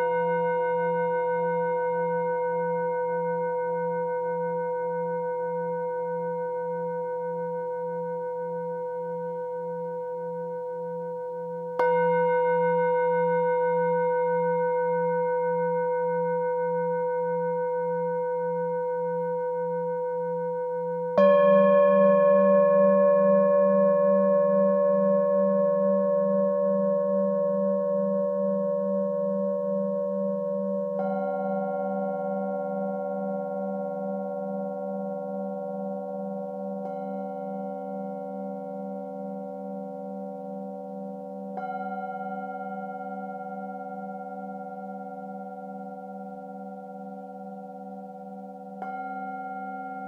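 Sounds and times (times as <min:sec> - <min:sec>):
singing bowls ringing: 0:00.0 - 0:50.0.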